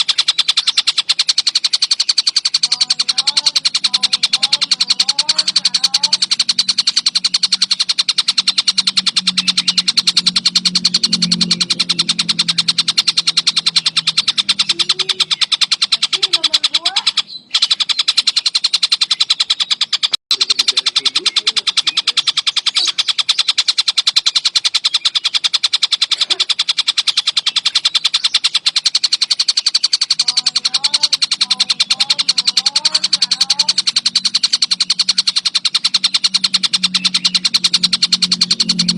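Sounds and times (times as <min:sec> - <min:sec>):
bird gliding warbles: 0:00.0 - 0:38.9
bird rattling shrill calls: 0:00.0 - 0:38.9.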